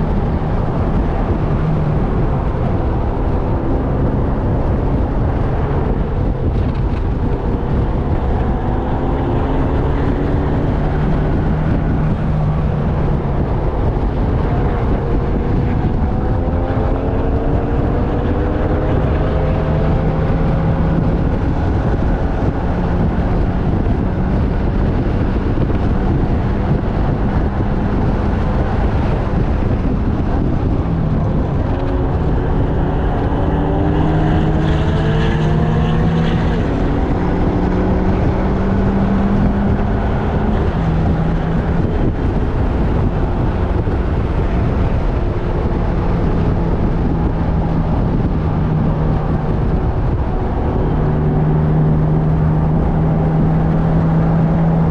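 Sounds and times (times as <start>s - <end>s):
race car engine revving: 0.0s - 54.9s
wind rushing on microphone: 0.0s - 54.9s.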